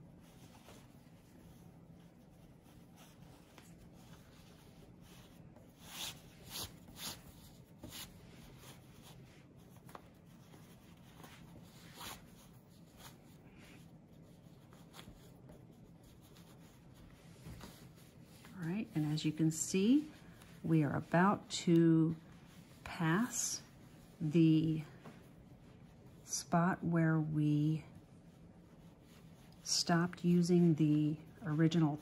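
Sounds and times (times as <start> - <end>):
fabric strips rustling: 0.0 - 32.0.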